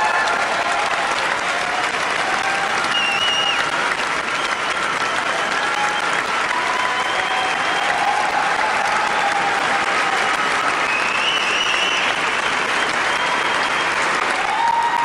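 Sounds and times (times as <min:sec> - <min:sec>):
audience applauding: 0:00.0 - 0:15.0
cheers and whistles: 0:00.0 - 0:15.0.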